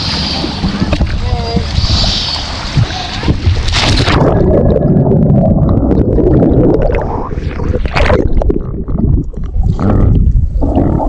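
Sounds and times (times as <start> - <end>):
muffled underwater rumble and gurgling: 0.0 - 11.0.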